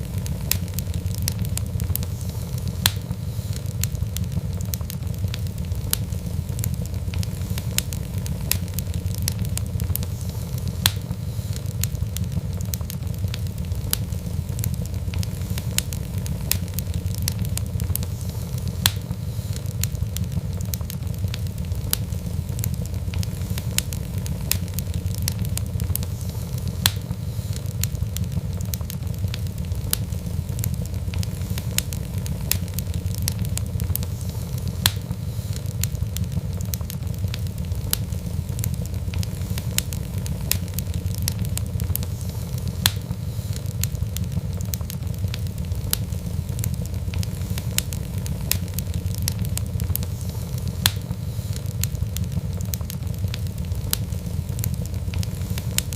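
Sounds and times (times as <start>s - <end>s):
fire crackling and popping: 0.0s - 55.9s
low rumble of flame: 0.0s - 55.9s.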